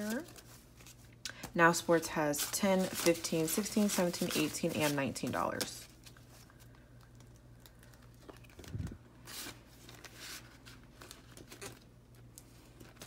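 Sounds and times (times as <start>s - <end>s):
paper and plastic rustling: 0.0s - 13.0s.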